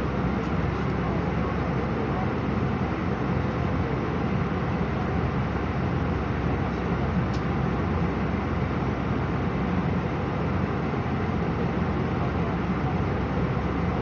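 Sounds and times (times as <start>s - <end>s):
airliner cabin rumble and hiss: 0.0s - 14.0s.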